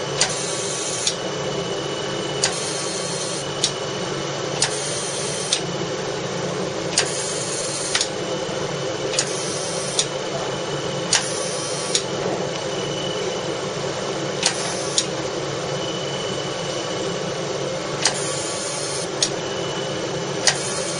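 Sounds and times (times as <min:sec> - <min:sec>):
laser machine fan hum: 0:00.0 - 0:20.9.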